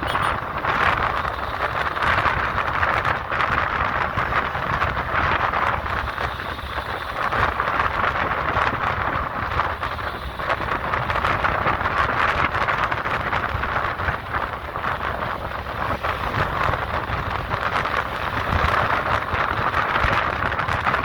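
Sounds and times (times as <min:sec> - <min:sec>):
vehicle road noise: 0:00.0 - 0:21.0
wind rushing over microphone: 0:00.0 - 0:21.0.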